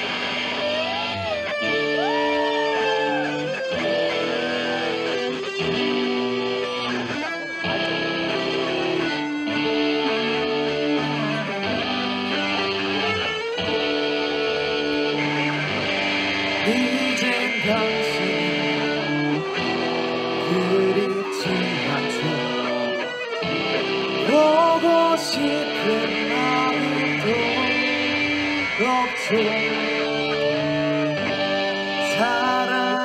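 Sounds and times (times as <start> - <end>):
live band with electric guitars: 0.0 - 33.0.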